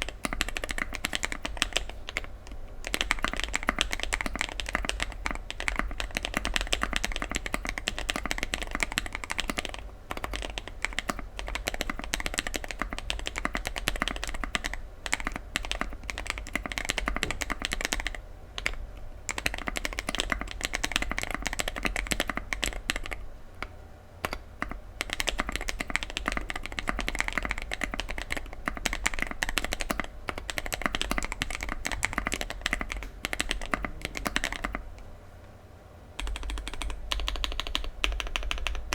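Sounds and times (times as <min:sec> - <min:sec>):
mechanical keyboard typing: 0:00.0 - 0:34.9, 0:36.2 - 0:38.9.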